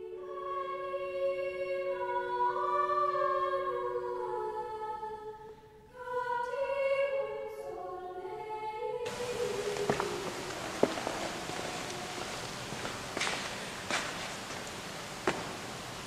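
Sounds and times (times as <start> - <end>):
choir singing slow melody: 0.0 - 16.0.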